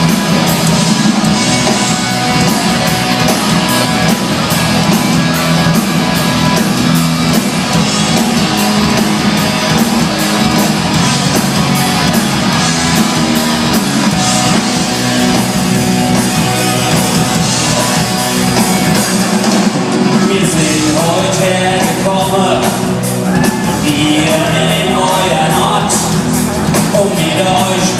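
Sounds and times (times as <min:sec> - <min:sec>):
guitar: 0:00.0 - 0:27.9
live rock band playing: 0:00.0 - 0:27.9
steady drum beat: 0:00.0 - 0:27.9.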